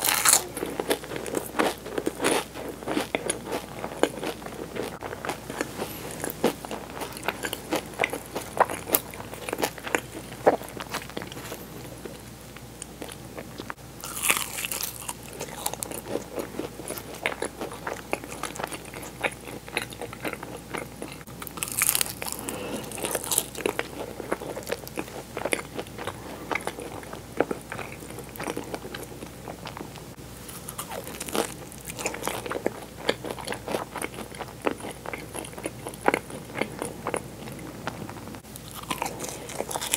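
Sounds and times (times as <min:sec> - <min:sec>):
pastry crunching while chewing: 0:00.0 - 0:39.9.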